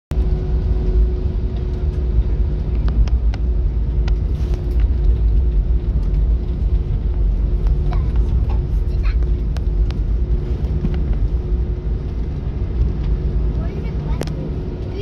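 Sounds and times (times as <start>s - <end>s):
cabin low rumble: 0.1s - 15.0s.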